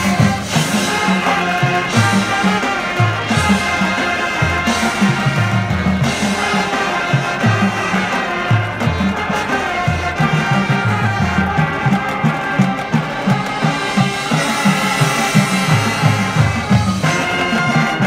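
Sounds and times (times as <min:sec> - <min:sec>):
marching band brass: 0:00.0 - 0:18.0.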